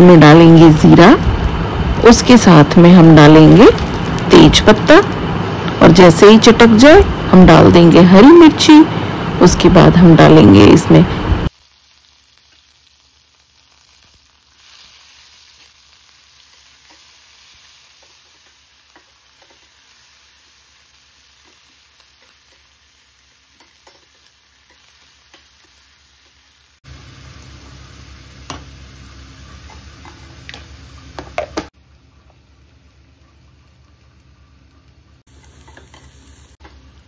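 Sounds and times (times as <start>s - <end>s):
onions sizzling in hot oil: 0.0s - 10.8s, 11.4s - 37.0s.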